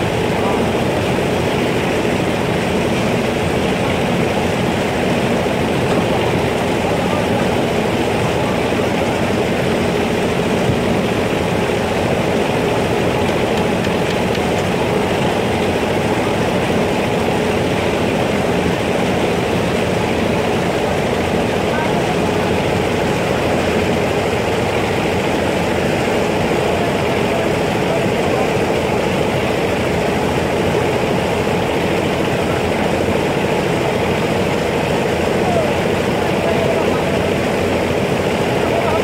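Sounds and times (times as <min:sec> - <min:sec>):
excavator diesel engine under load: 0:00.0 - 0:39.0.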